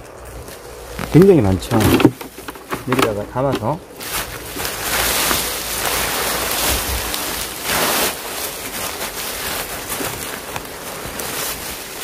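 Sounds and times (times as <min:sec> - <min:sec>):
dry leaves rustling and crackling: 0:00.0 - 0:12.0.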